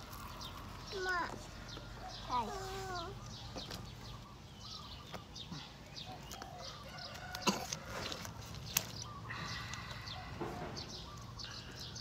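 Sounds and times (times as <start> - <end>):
bird-like chirps and calls: 0.1 - 12.0.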